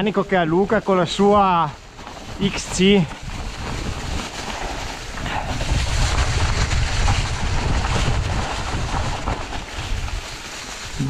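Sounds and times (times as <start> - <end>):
bike tyres rumbling on trail: 0.0 - 11.0
wind buffeting microphone: 1.3 - 11.0.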